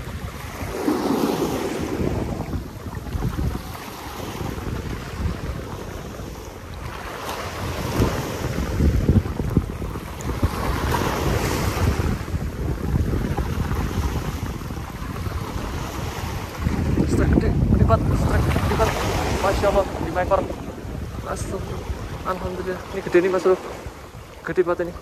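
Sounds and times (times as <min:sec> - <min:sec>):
waves breaking on rocks: 0:00.0 - 0:25.0
wind buffeting microphone: 0:00.0 - 0:25.0.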